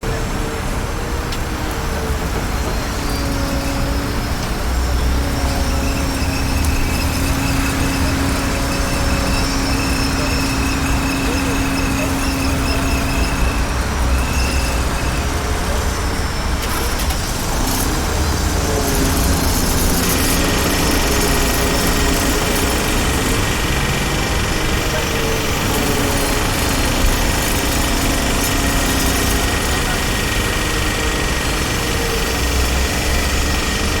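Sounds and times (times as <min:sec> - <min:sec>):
heavy machinery engines rumbling: 0:00.0 - 0:34.0.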